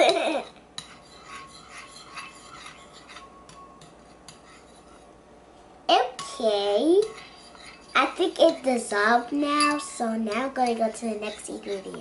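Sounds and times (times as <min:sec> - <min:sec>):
utensil scraping bowl: 0:00.0 - 0:05.2, 0:06.0 - 0:12.0.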